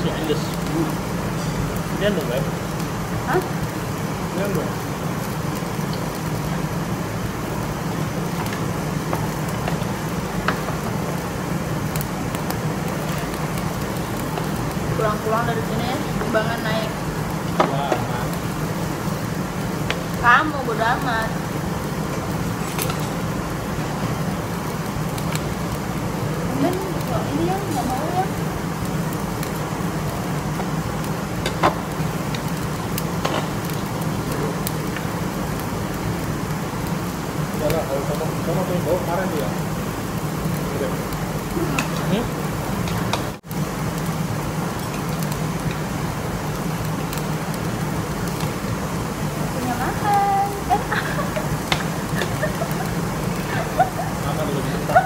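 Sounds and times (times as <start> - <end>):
meat sizzling on a grill: 0.0 - 55.0
steady low hum: 0.0 - 55.0.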